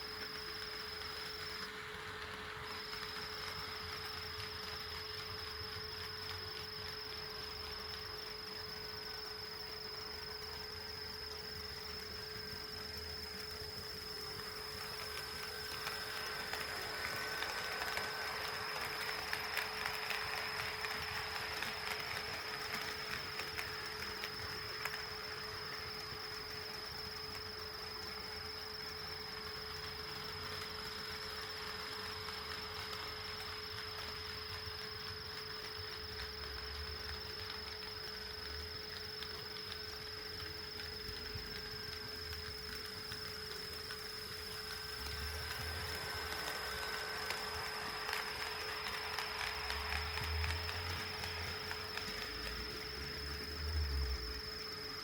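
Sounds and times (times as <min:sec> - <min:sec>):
model train rolling on track: 0:00.0 - 0:55.0
steady high whine: 0:00.0 - 0:55.0.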